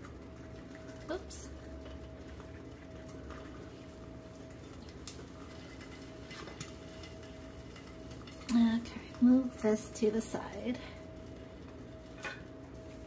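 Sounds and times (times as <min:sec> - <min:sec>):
constant hum: 0:00.0 - 0:13.0
eggs sizzling in a pan: 0:00.0 - 0:13.0.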